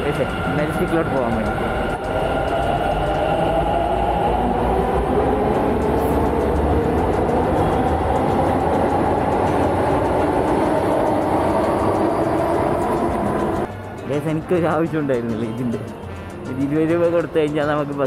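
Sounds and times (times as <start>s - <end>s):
metro train rumbling past: 0.0s - 15.0s.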